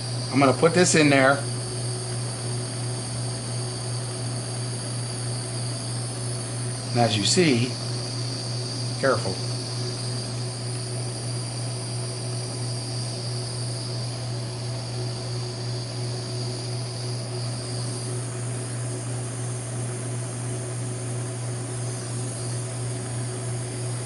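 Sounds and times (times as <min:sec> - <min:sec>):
heat torch burning: 0:00.0 - 0:24.0.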